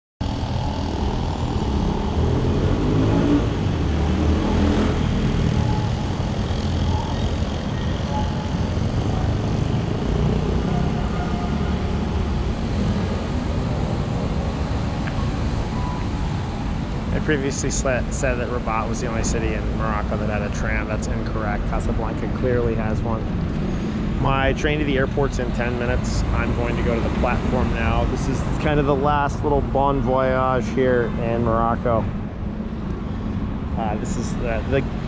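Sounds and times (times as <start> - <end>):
vehicle passing by: 0.2 - 29.6
traffic rumble: 0.2 - 35.0.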